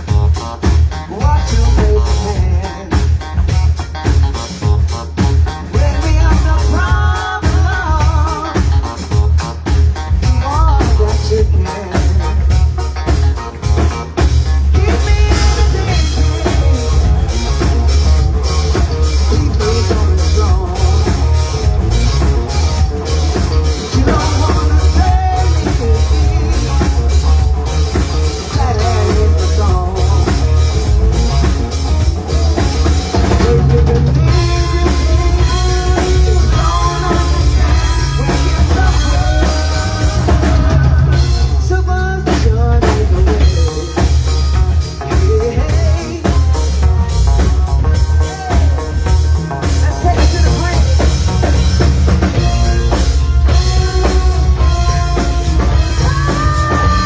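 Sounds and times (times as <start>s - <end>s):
band playing rock music: 0.0s - 57.0s
drum kit beat: 0.0s - 57.0s.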